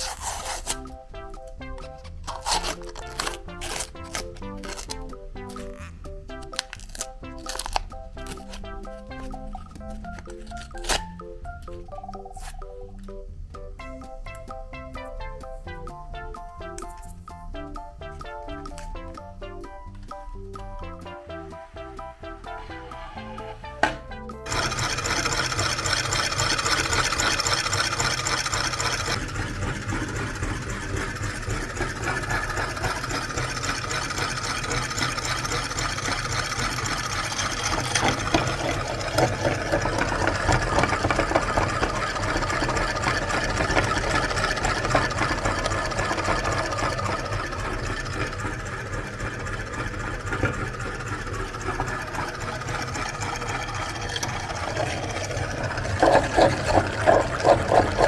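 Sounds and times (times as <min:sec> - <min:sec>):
meat grinder motor hum: 0:00.0 - 0:11.2, 0:21.3 - 0:58.0.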